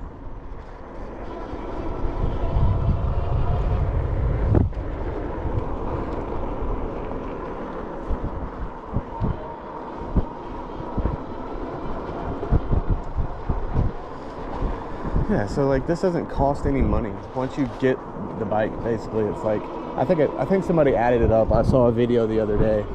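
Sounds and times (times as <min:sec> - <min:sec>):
wind rush and road rumble: 0:00.0 - 0:22.9.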